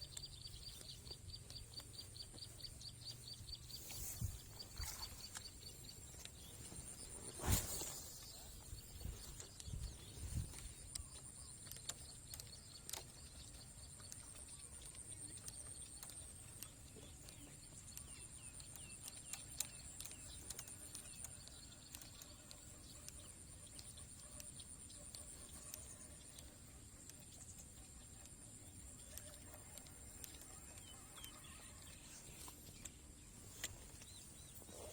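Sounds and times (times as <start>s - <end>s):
scattered clicks: 0.0s - 4.2s, 8.2s - 34.8s
small chirps: 0.0s - 34.9s.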